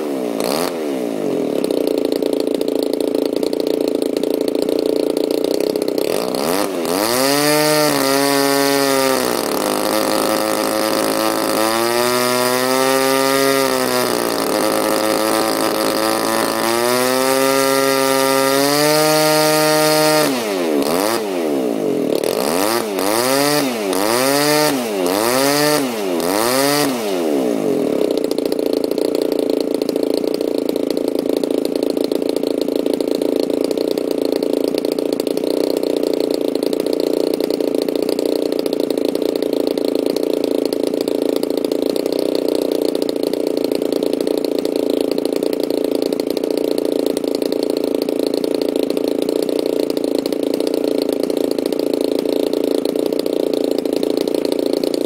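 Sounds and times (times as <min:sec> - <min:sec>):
model airplane engine revving: 0:00.0 - 0:55.0.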